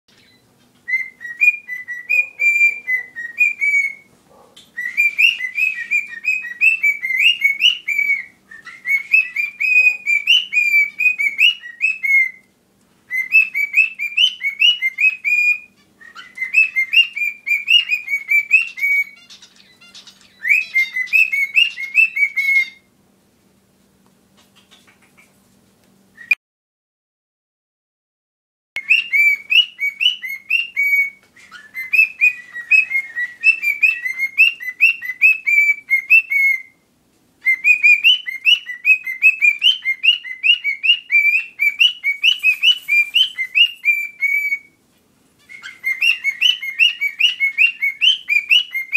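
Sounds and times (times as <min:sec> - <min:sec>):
cockatiel whistling: 0:00.1 - 0:12.5, 0:13.1 - 0:22.9, 0:26.2 - 0:26.4, 0:28.8 - 0:36.8, 0:37.4 - 0:44.8, 0:45.4 - 0:48.9
faint bird chirps: 0:00.1 - 0:12.5, 0:13.1 - 0:22.9, 0:28.8 - 0:36.8, 0:37.4 - 0:44.8, 0:45.4 - 0:48.9.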